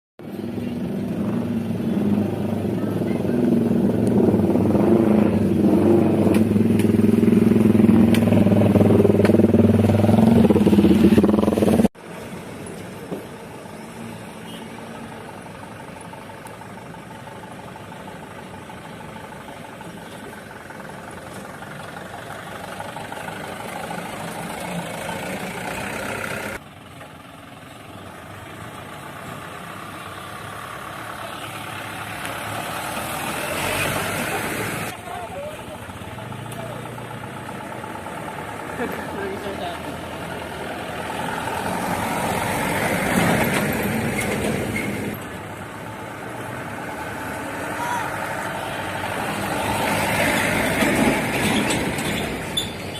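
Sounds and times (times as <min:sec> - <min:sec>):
truck engine running: 0:00.2 - 0:14.3, 0:14.9 - 0:52.9
road noise: 0:00.2 - 0:52.9.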